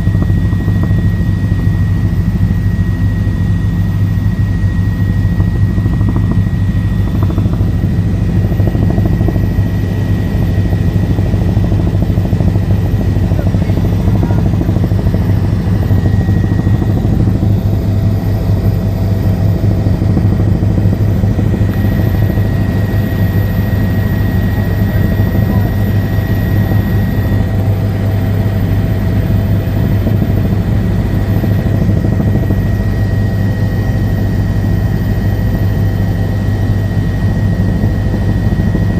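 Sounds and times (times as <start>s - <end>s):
faint steady whine: 0.0s - 38.9s
helicopter cabin drone: 0.0s - 38.9s.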